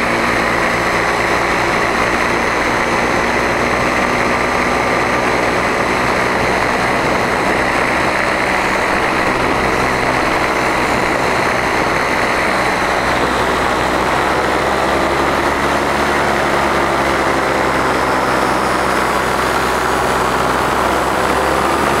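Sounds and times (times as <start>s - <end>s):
paramotor engine and propeller: 0.0s - 22.0s.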